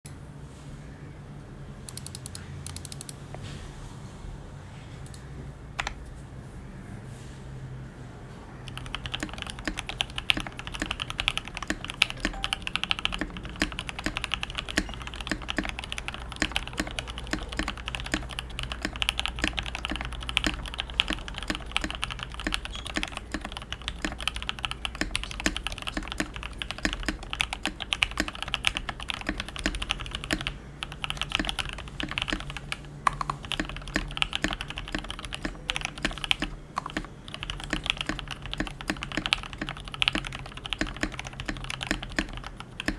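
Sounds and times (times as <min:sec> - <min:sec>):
fast typing on mechanical keyboard: 0:01.9 - 0:03.2, 0:08.6 - 0:42.9.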